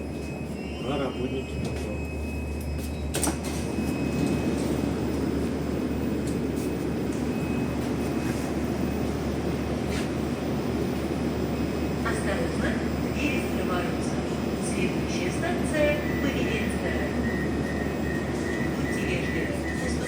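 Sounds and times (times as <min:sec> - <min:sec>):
train hum and rumble: 0:00.0 - 0:20.0.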